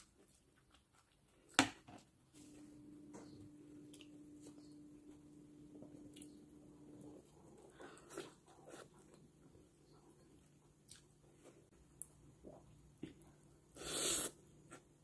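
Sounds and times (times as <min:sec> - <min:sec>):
person chewing food: 0:00.0 - 0:01.6, 0:03.8 - 0:15.0.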